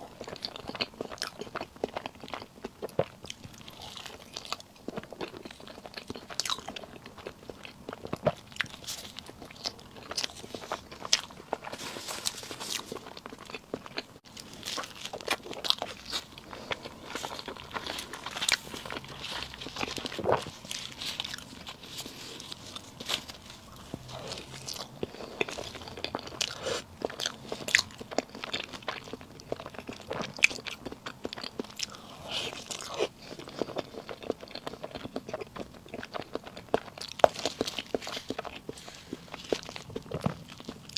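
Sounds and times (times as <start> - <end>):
biting and chewing soft cake: 0.0 - 40.9.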